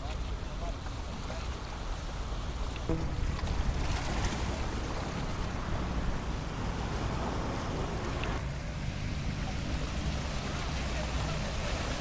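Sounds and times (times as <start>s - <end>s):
sea washing: 0.0s - 12.0s
wind on microphone: 1.1s - 10.8s.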